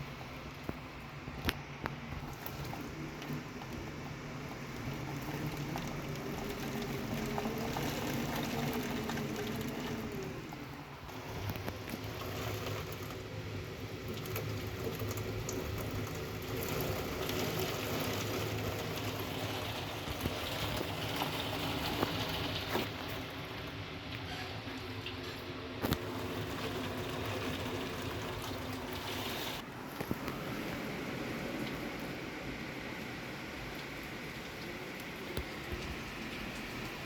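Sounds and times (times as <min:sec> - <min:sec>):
heavy rain: 0:02.0 - 0:25.1, 0:25.9 - 0:37.0.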